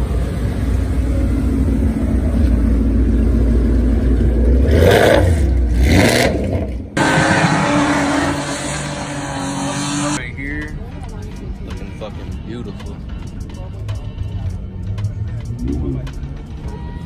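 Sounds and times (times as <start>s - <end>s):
car engine and road noise: 0.0s - 17.0s
car engine rumbling: 0.0s - 17.0s.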